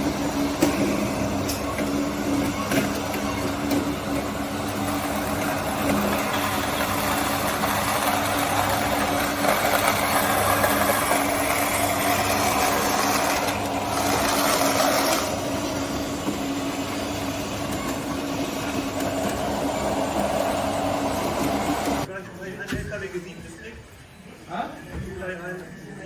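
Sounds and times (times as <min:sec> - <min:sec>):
toy construction machine motor hum: 0:00.0 - 0:22.1.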